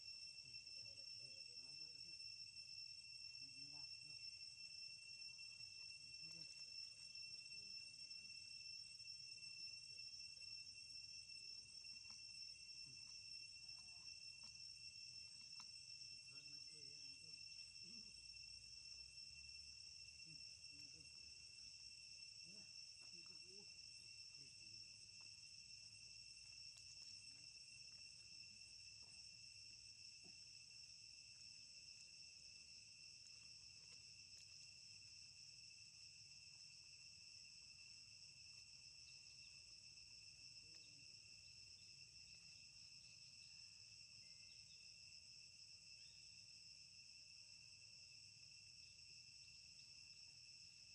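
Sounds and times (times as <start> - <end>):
insect chorus: 0.0 - 50.9.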